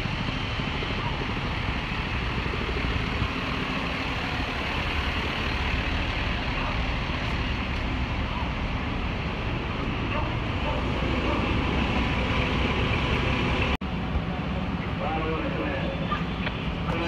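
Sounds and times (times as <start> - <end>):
diesel engines idling: 0.0 - 17.0.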